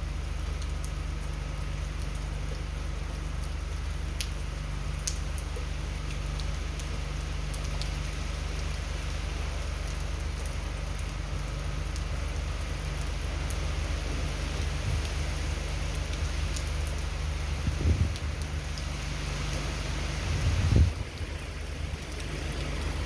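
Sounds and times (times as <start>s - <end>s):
heavy rain falling: 0.0s - 23.0s
low steady rumble: 0.0s - 23.0s.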